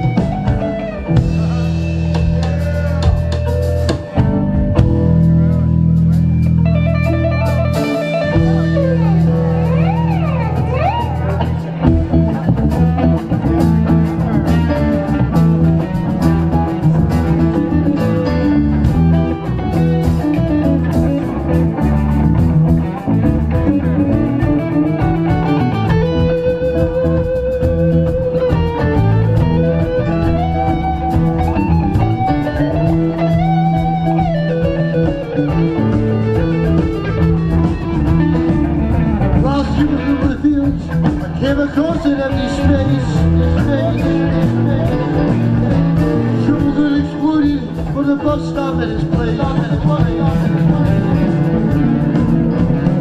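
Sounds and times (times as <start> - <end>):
bass: 0.0 - 53.0
drums: 0.0 - 53.0
electric guitar lead: 0.0 - 53.0
keyboard: 0.0 - 53.0.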